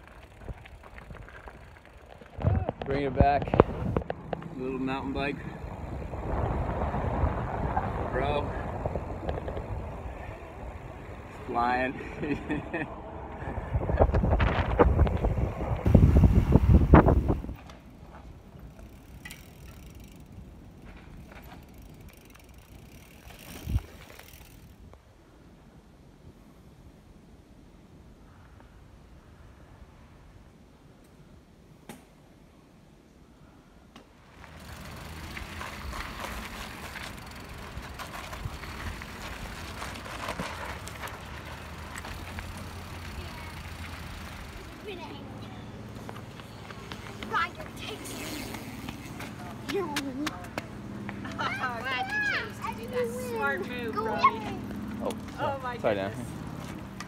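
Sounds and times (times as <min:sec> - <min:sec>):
bike rumbling on pavement: 0:00.0 - 0:25.0, 0:33.9 - 0:57.0
bike tyres on dirt trail: 0:00.0 - 0:27.1, 0:33.9 - 0:57.0.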